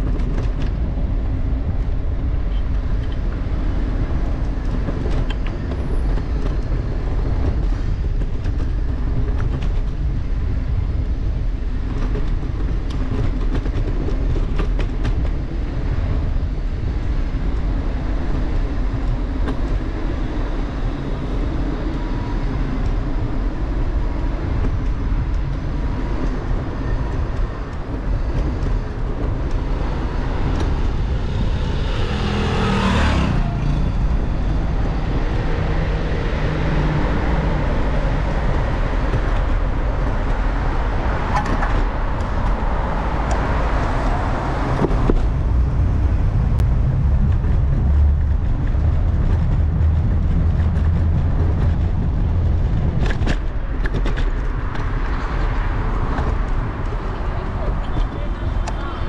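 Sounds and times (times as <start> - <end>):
wind and road noise rumble: 0.0 - 59.0.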